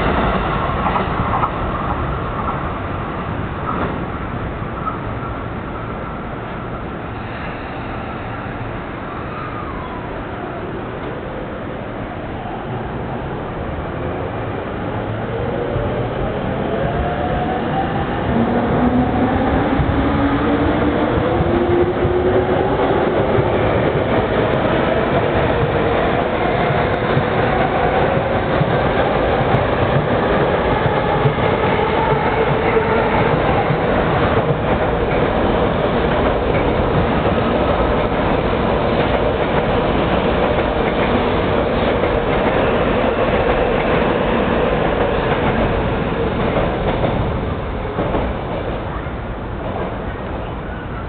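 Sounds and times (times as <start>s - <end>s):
train wheels on rails: 0.0s - 11.3s, 11.9s - 51.0s.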